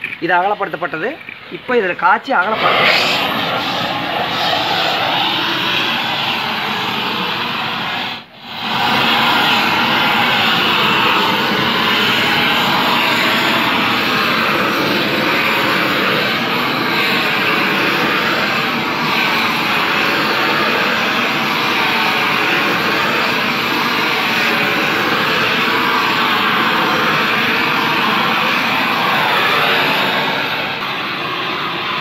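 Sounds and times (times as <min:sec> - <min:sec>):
blowtorch flame hissing: 0:01.7 - 0:32.0.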